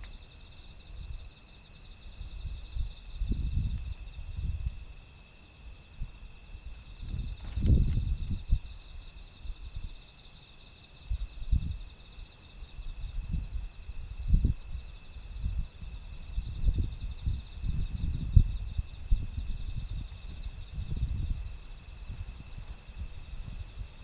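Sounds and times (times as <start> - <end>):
insects chirping: 0.0 - 24.0
wind buffeting microphone: 0.8 - 5.0, 5.8 - 10.0, 11.0 - 11.9, 12.7 - 24.0.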